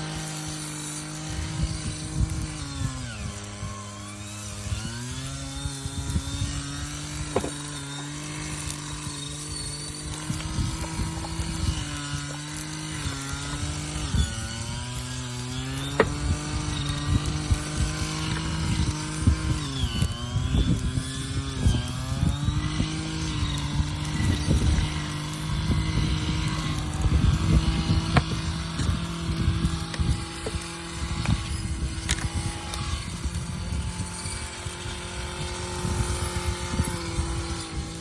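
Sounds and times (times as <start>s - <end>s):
motor humming: 0.0s - 38.0s.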